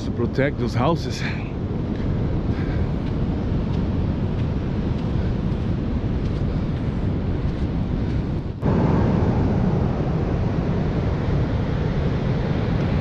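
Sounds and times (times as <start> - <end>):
rush of wind: 0.0 - 13.0
wind buffeting microphone: 0.0 - 13.0
breaking surf: 1.7 - 13.0.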